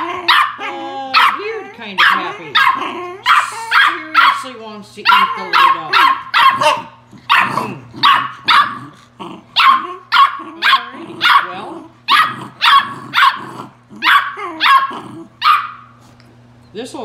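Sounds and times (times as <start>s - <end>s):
puppy yapping: 0.0s - 15.9s.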